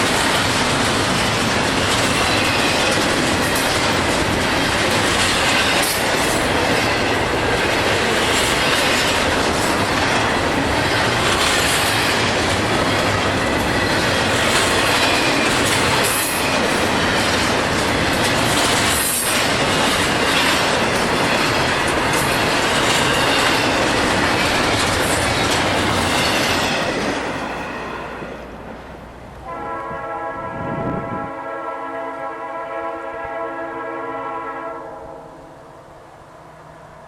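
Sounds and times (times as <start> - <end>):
freight train wheels rolling on rails: 0.0 - 34.6.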